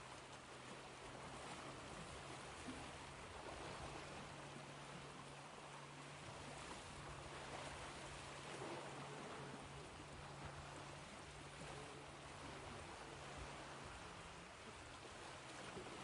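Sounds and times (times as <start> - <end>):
ocean waves washing in: 0.0 - 16.0
steady low hum: 0.0 - 16.0.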